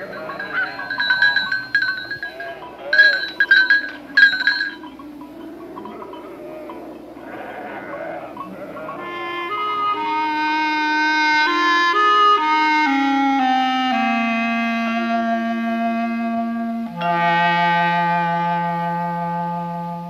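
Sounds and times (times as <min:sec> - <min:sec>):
wind instrument melody: 0:00.0 - 0:07.3, 0:08.3 - 0:20.0.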